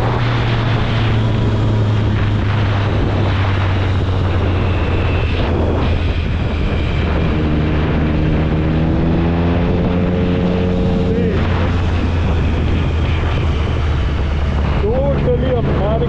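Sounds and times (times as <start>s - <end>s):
motorcycle engine accelerating: 0.0s - 16.0s
wind noise: 0.0s - 16.0s.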